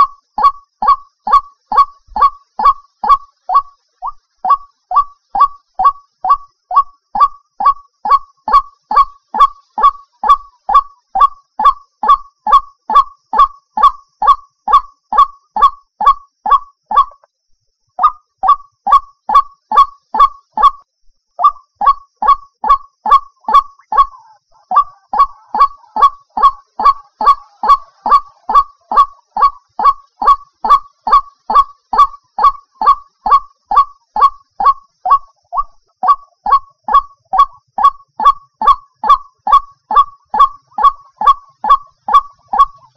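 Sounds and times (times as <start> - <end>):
waterhen call repeated: 0.0 - 17.3, 18.0 - 20.8, 21.4 - 42.9.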